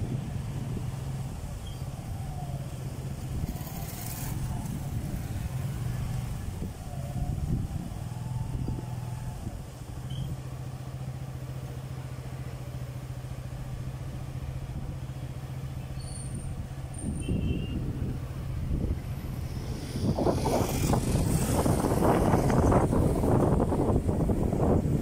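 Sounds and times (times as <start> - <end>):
engine running at a low hum: 0.0 - 25.0
road traffic passing: 0.0 - 25.0.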